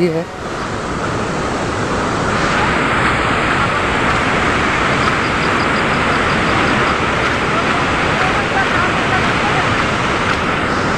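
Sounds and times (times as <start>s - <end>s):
rain and running water: 0.0s - 10.9s.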